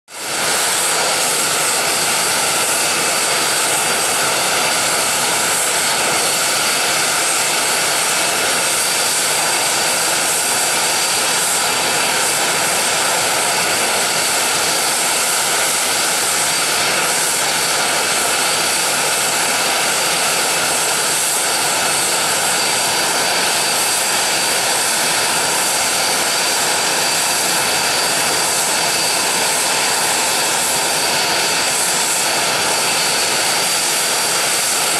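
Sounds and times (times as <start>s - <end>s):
high turbine whine: 0.1s - 34.9s
jet engines running: 0.1s - 34.9s.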